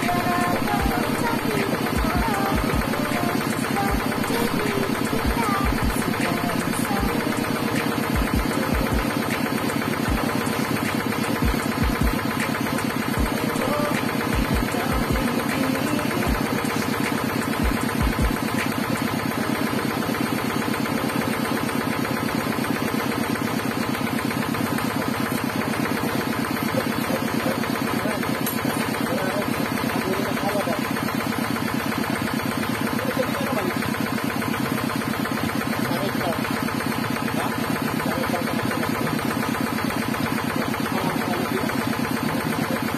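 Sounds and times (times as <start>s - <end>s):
hand tractor engine running: 0.0s - 42.9s.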